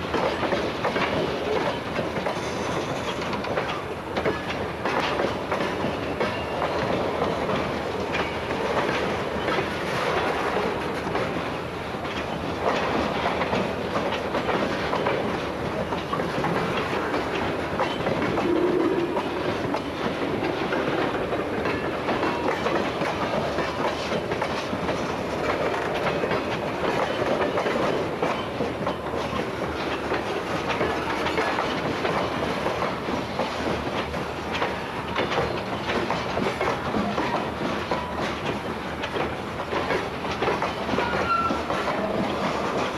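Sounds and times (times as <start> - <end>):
freight train rolling past: 0.0 - 42.9
wheels clicking over rail joints: 0.0 - 42.9.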